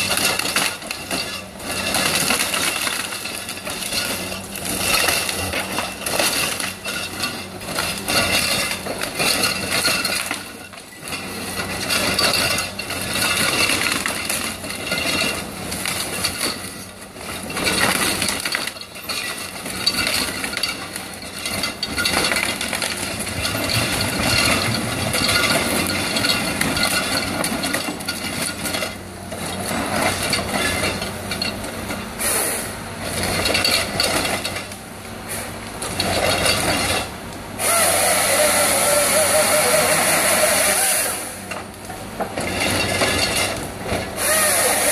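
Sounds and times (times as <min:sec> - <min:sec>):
harvester engine and hydraulics: 0:00.0 - 0:44.9.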